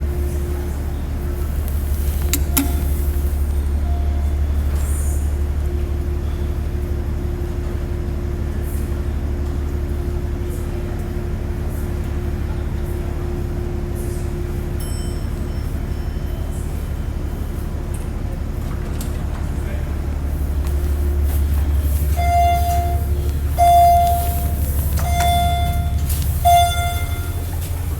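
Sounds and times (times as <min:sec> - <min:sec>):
elevator machinery hum: 0:00.0 - 0:27.9.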